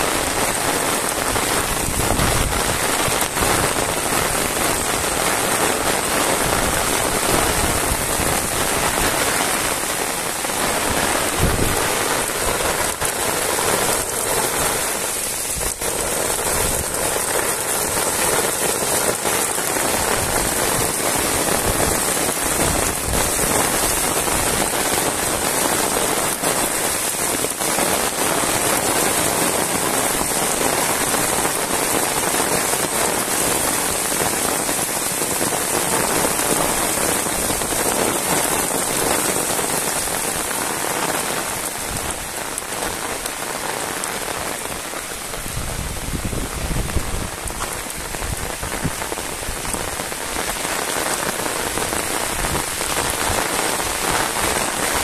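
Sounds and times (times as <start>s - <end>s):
heavy rain on a paved road: 0.0s - 55.0s.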